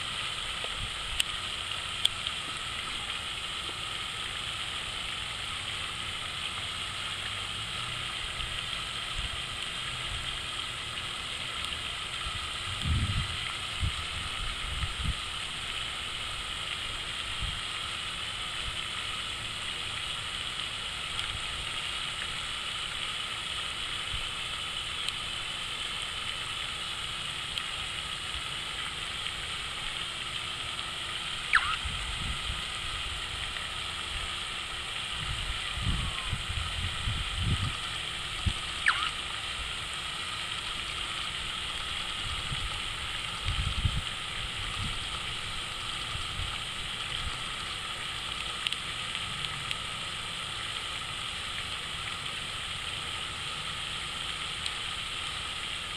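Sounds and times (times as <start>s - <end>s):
water fountain splashing: 0.0s - 55.9s.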